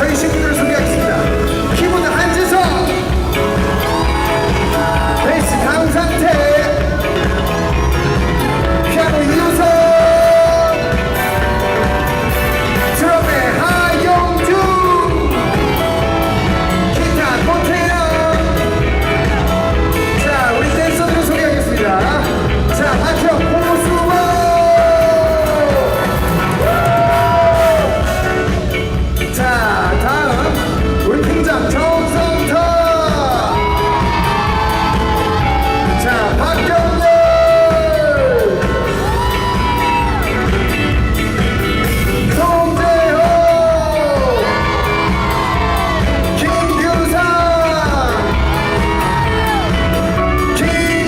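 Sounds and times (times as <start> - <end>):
amplified dance-pop music: 0.0 - 51.0
crowd yelling and cheering: 0.0 - 51.0.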